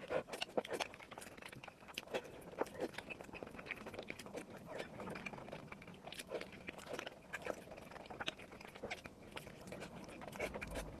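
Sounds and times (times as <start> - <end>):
chewing and biting food: 0.0 - 11.0.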